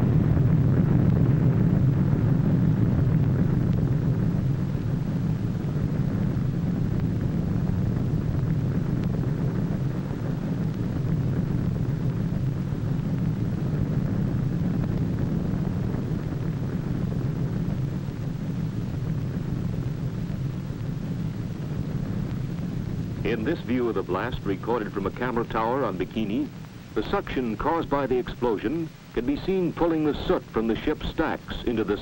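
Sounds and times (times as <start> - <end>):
old film soundtrack hiss: 0.0 - 32.0.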